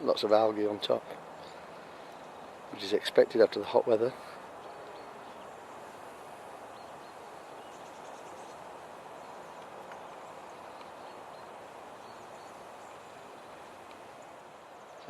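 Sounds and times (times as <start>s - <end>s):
breeze rushing: 0.0s - 15.0s.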